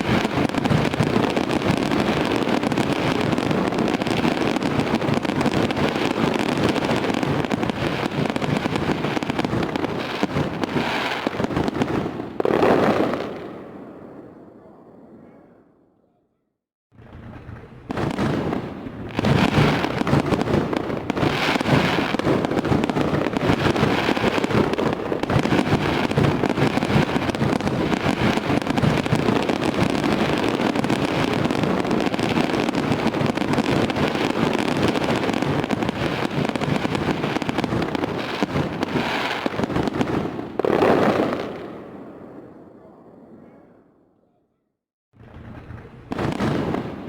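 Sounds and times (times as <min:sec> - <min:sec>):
fireworks crackling and popping: 0:00.0 - 0:13.9, 0:17.0 - 0:42.2, 0:45.2 - 0:47.0
fireworks low booming: 0:00.0 - 0:15.5, 0:16.9 - 0:43.6, 0:45.2 - 0:47.0.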